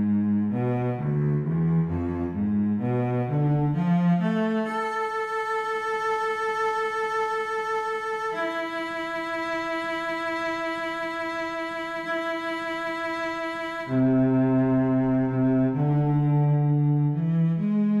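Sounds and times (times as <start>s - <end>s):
solo bowed string music: 0.0s - 18.0s.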